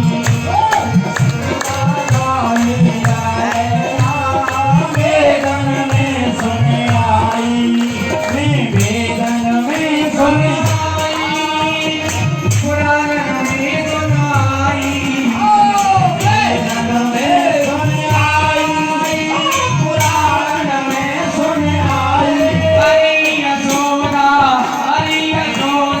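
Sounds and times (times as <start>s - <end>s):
devotional folk singing: 0.0s - 26.0s
rhythmic percussion with low drum: 0.0s - 26.0s.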